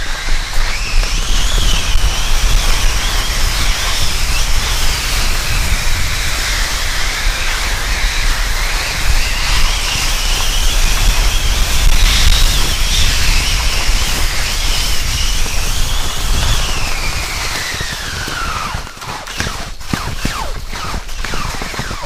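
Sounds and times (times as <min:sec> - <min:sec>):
steady hiss: 0:00.0 - 0:19.3
drone propellers whining: 0:00.0 - 0:22.0.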